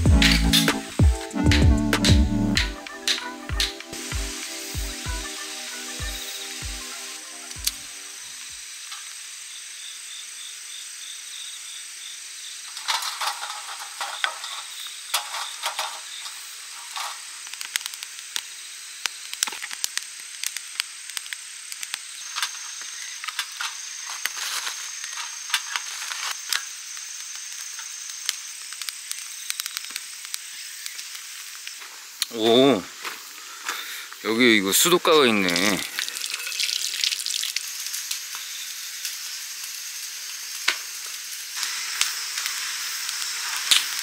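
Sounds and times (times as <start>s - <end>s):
kindling crackling and popping: 0.0s - 9.2s, 12.7s - 44.0s
steady high hiss: 0.0s - 44.0s.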